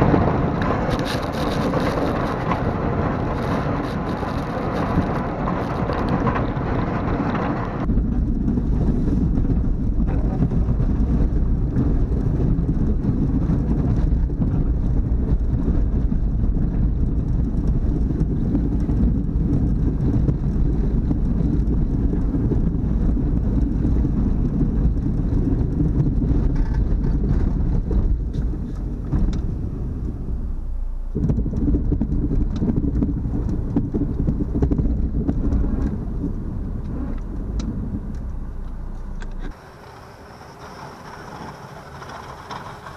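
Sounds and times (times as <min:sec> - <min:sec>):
car engine droning under load: 0:00.0 - 0:42.9.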